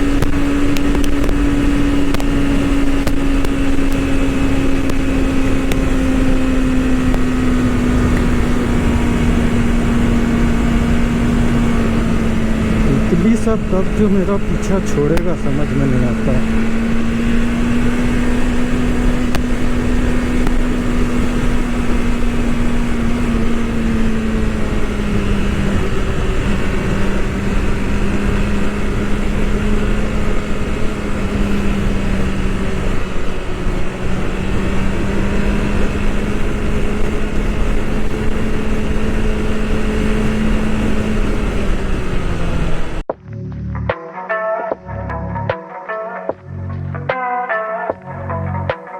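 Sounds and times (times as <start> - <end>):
wind and road noise: 0.0 - 43.1
motorcycle engine cruising: 0.0 - 43.9.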